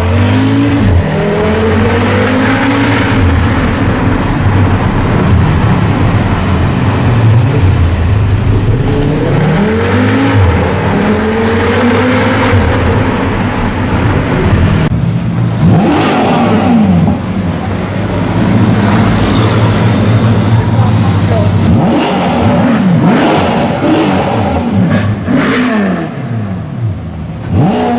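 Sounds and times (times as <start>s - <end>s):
sports car engine revving: 0.0s - 27.9s.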